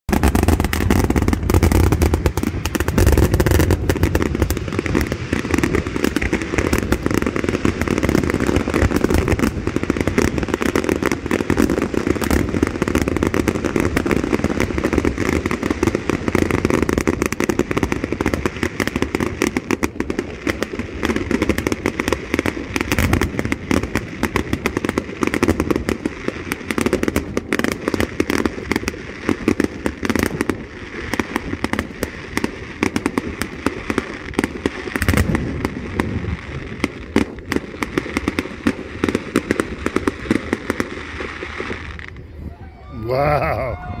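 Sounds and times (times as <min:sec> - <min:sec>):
fireworks bursts and crackling: 0:00.0 - 0:44.0.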